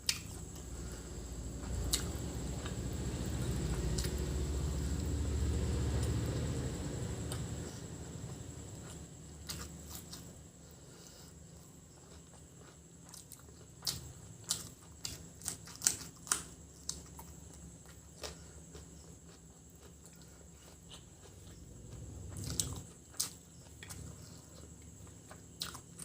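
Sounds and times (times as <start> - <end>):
person chewing: 0.0 - 5.0, 7.2 - 26.0.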